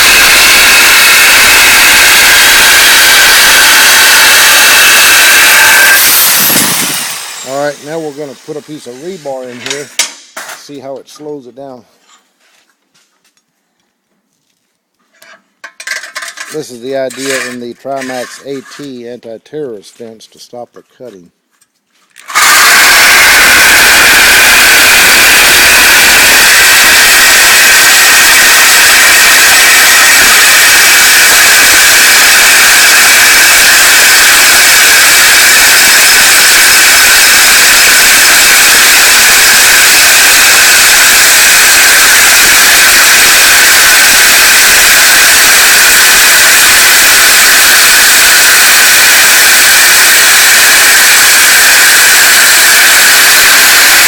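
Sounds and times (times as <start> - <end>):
power saw cutting steel: 0.0 - 10.6, 15.8 - 19.0, 22.2 - 54.0.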